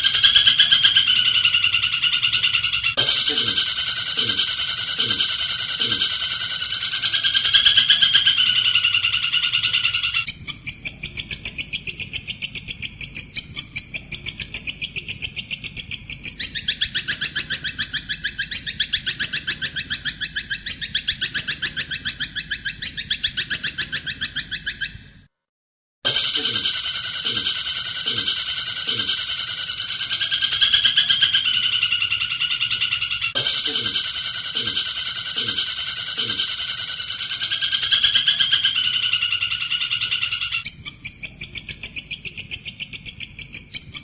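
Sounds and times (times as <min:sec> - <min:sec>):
songbird trilling: 0:00.0 - 0:25.0, 0:26.1 - 0:44.0.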